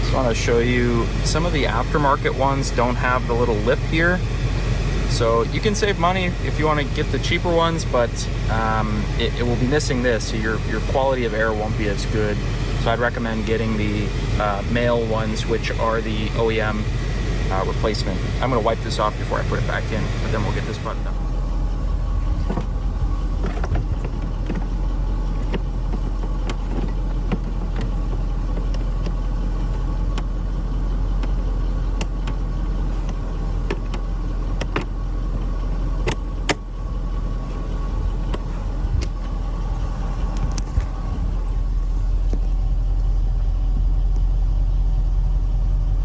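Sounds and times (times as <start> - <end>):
low rumble: 0.0 - 46.0.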